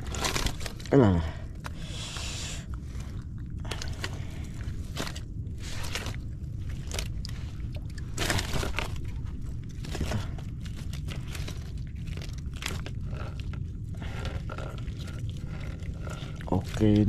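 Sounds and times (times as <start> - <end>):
mesh net rustling: 0.0 - 0.9, 1.6 - 17.0
steady low rumble: 0.0 - 17.0.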